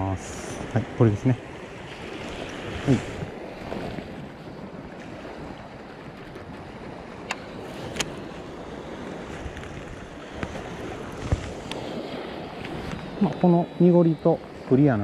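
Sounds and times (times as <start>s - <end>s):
lake waves washing: 0.0s - 15.0s
wind buffeting microphone: 0.0s - 15.0s.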